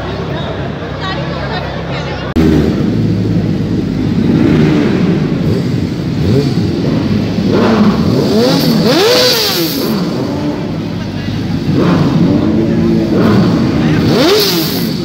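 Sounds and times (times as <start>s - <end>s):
motorcycle engine revving: 2.4s - 15.0s.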